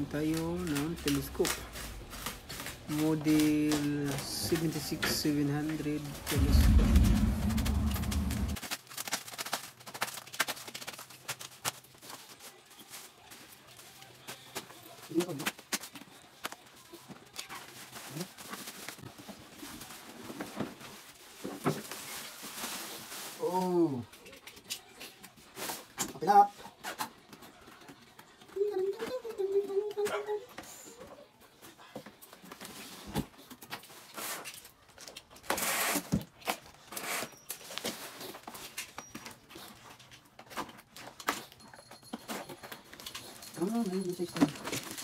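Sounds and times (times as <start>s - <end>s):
bubble wrap rustling and crinkling: 0.0s - 29.9s, 32.2s - 41.6s, 42.6s - 45.0s.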